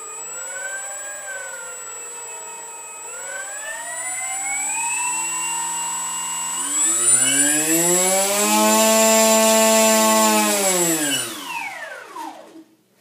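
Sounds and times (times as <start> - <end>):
electric motor whine: 0.0 - 12.7.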